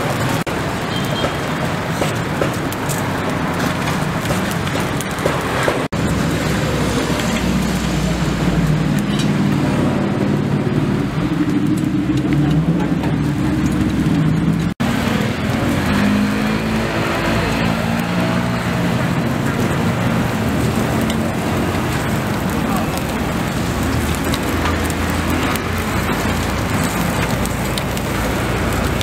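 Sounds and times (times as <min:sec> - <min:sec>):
road noise: 0:00.0 - 0:29.0
vehicle engines running: 0:00.0 - 0:29.0.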